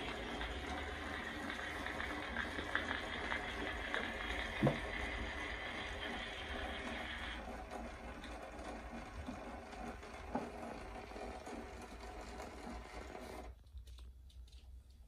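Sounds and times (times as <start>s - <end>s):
phonograph running: 0.0s - 14.5s.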